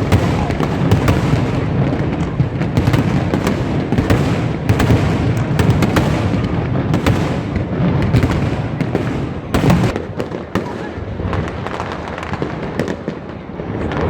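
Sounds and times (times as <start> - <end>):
firework bangs and crackles: 0.0 - 14.0.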